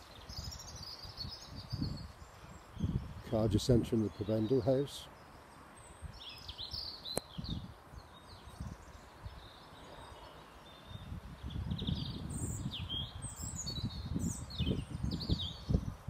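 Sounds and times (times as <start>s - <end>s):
wind buffeting microphone: 0.0s - 4.4s, 6.0s - 9.6s, 10.7s - 16.0s
small birds chirping: 0.0s - 16.0s.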